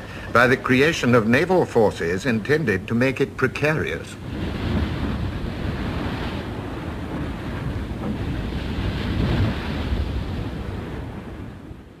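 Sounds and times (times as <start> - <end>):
waves breaking: 0.0 - 12.0
wind: 0.0 - 12.0.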